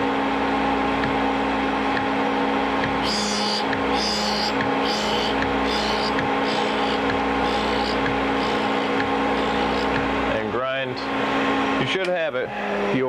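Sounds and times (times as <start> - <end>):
grinder motor hum: 0.7 - 11.8.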